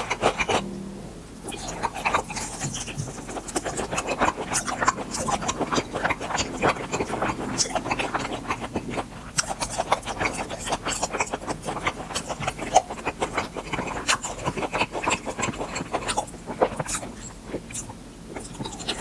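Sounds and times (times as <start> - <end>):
chewing and lip smacking: 0.0 - 0.7, 1.4 - 19.0.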